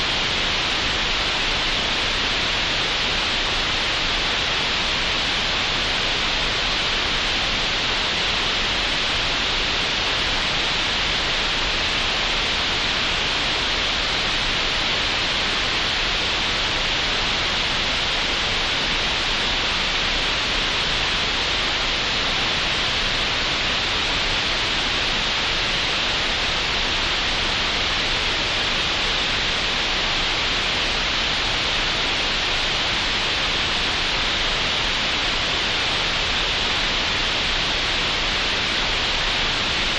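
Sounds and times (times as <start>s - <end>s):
steady even hiss: 0.0s - 39.9s.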